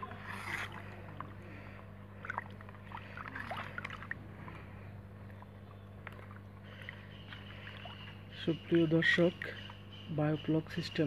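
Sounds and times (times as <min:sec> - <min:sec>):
water sloshing in a plastic bucket: 0:00.0 - 0:09.8
steady low hum: 0:00.0 - 0:11.0.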